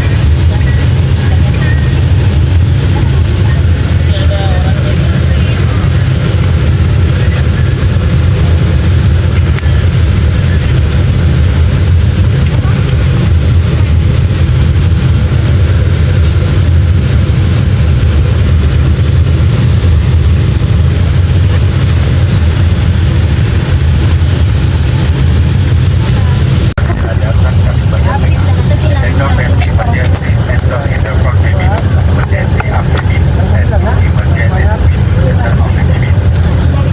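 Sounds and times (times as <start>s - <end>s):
jet engine rumble in cabin: 0.0s - 36.9s.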